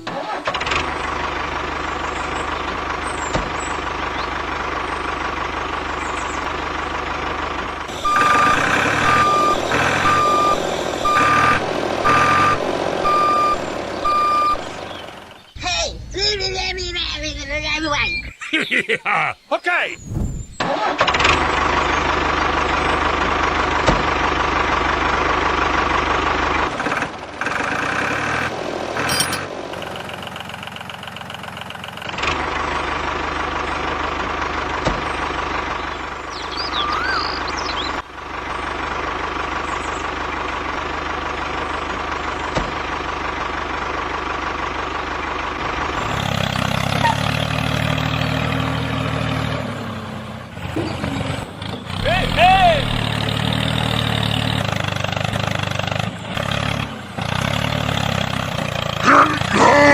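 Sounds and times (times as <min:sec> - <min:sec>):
engine-like machine running: 0:00.0 - 0:17.7, 0:20.0 - 0:59.9.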